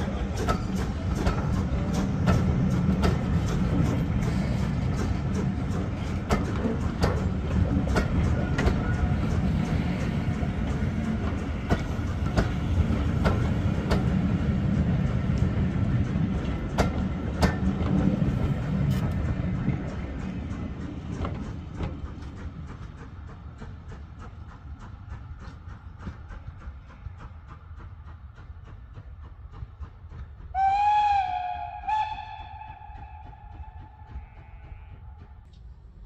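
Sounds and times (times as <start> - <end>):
train wheels rumbling on rails: 0.0 - 36.0
wheels clicking over rail joints: 0.0 - 36.0.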